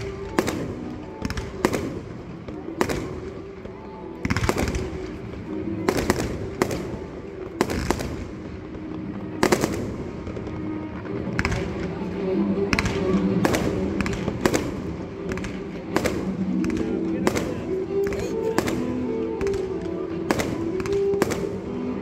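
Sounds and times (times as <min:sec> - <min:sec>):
fireworks bursting: 0:00.0 - 0:22.0
music playing: 0:00.0 - 0:22.0.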